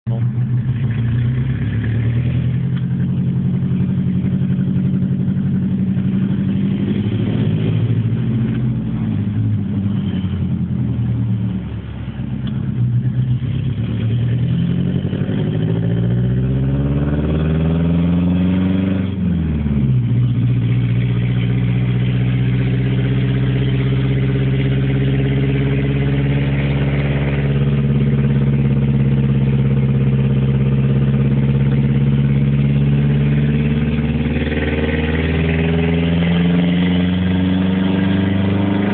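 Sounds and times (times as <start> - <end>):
car engine and exhaust accelerating: 0.0 - 38.9.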